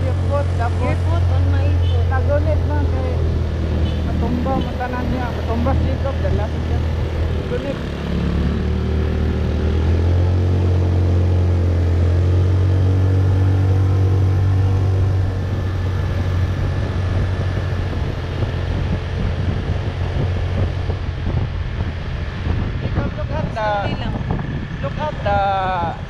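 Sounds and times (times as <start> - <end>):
motorbike engine running: 0.0 - 26.0
road and wind noise: 0.0 - 26.0.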